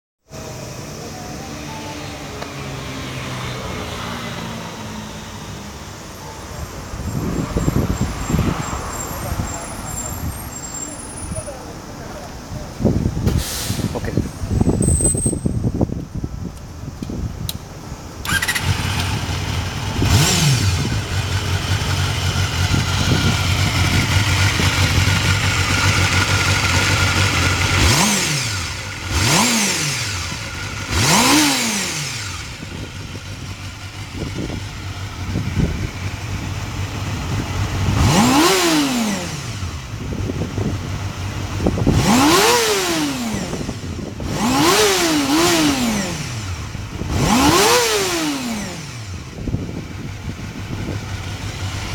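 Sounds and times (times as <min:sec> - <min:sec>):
motorcycle engine idling and revving: 0:00.2 - 0:51.9.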